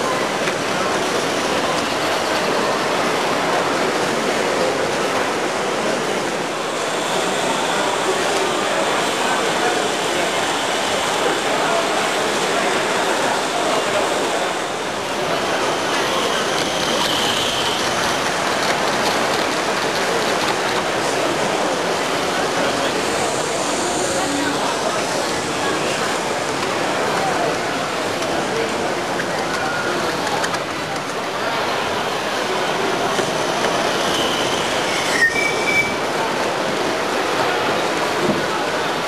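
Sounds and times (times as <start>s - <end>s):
steam model train hissing: 0.0s - 39.0s.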